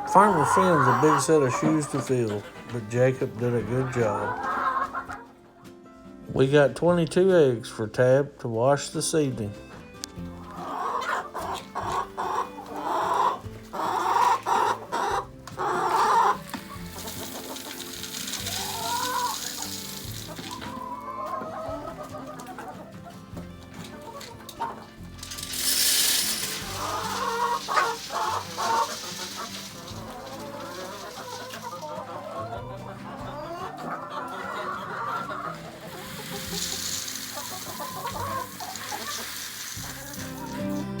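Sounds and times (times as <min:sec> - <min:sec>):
chickens clucking and squawking: 0:00.0 - 0:05.7, 0:10.3 - 0:41.0.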